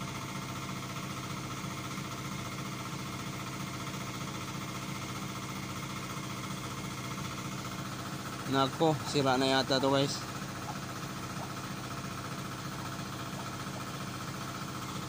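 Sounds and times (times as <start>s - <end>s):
generator engine droning: 0.0s - 15.0s.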